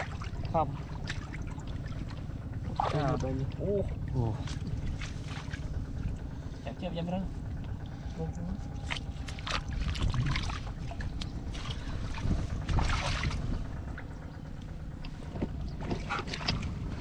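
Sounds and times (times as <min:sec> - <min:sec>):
splashing in muddy water: 0:00.0 - 0:06.6, 0:08.7 - 0:14.5, 0:15.1 - 0:17.0
wind rumble on microphone: 0:00.0 - 0:17.0.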